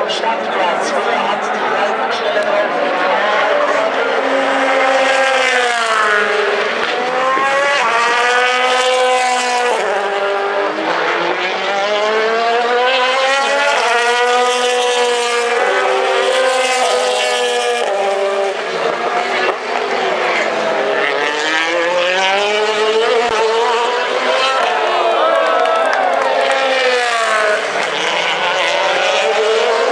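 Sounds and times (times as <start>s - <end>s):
racing car engine at full throttle: 0.0s - 29.9s.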